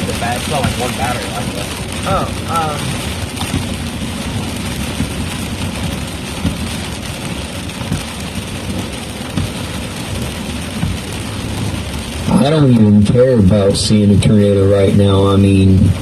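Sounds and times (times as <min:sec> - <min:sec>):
rain on a car roof: 0:00.0 - 0:16.0
road and engine rumble: 0:00.0 - 0:16.0.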